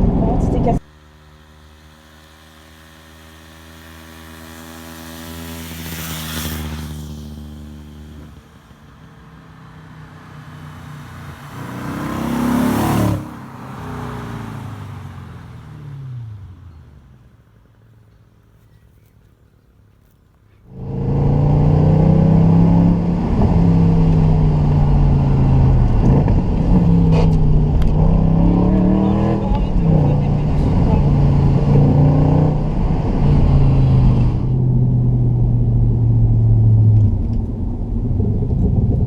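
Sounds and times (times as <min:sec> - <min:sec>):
vehicles driving past: 0:00.0 - 0:39.0.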